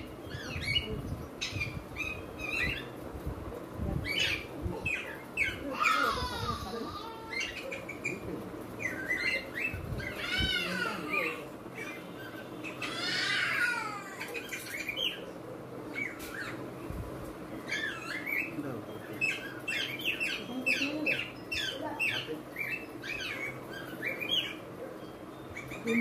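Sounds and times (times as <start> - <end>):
birds squawking and chirping: 0.0 - 26.0.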